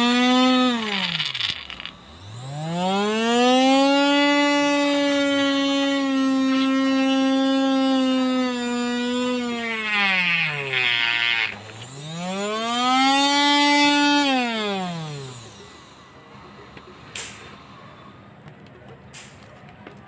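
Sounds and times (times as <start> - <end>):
electric drill motor whining: 0.0 - 18.2.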